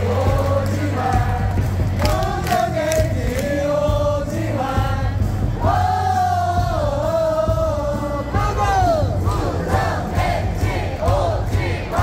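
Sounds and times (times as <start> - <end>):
amplified backing music: 0.0 - 12.0
crowd singing in unison: 0.0 - 12.0.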